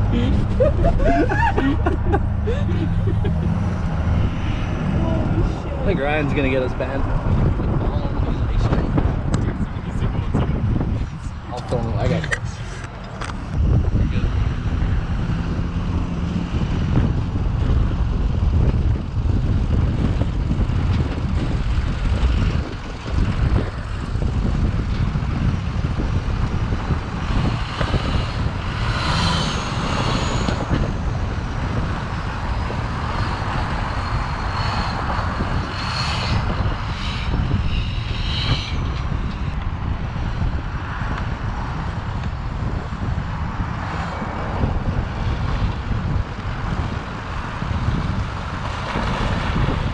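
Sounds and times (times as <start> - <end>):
truck engine rumbling: 0.0 - 49.9.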